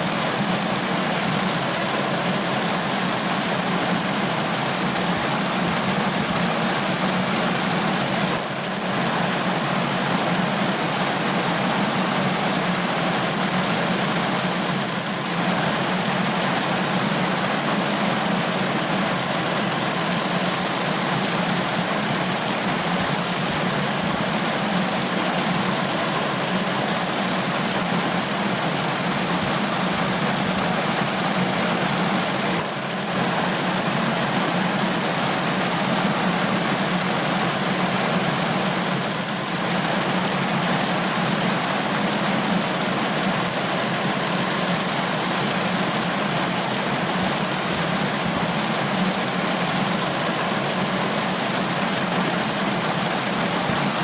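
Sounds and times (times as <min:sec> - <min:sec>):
heavy rain on a car roof: 0:00.0 - 0:54.0.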